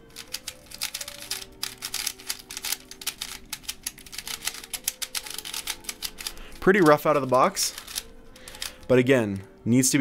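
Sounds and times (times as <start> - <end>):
plastic cube clicking and clacking: 0.1 - 8.8.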